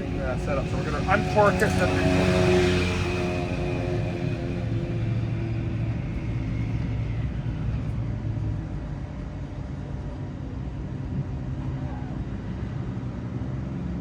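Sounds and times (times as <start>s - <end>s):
engine humming and rumbling: 0.0s - 14.0s.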